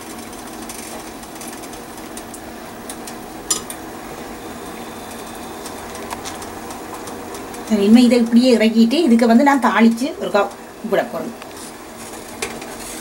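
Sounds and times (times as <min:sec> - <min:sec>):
liquid simmering in a pot: 0:00.0 - 0:13.0.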